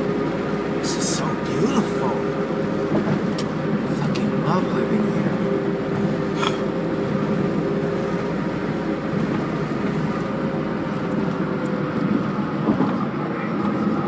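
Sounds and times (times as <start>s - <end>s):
tyres and engine drone: 0.0s - 14.0s.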